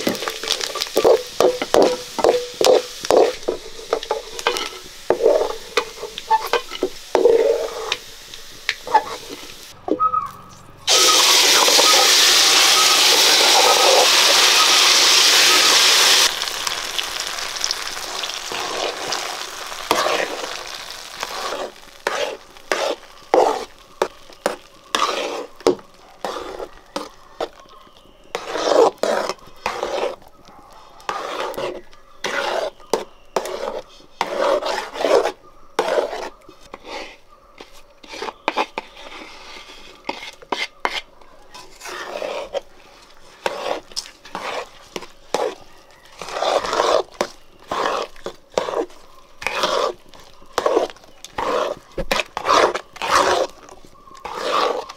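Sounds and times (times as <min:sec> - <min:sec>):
metal spoon scraping metal pan: 0:00.0 - 0:16.4, 0:17.4 - 0:27.6, 0:28.3 - 0:30.2, 0:31.0 - 0:54.9.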